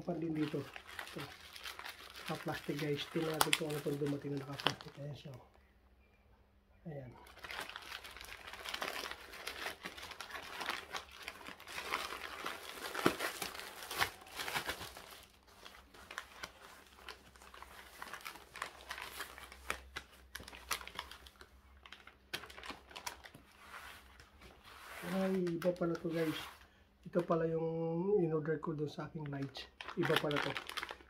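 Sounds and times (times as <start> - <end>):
plastic mailer bag crinkling: 0.0 - 5.4, 7.2 - 27.4, 29.2 - 31.0.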